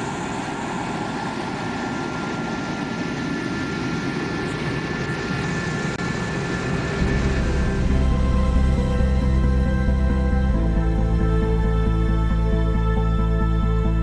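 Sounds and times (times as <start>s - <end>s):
jet aircraft engine running: 0.0s - 14.0s.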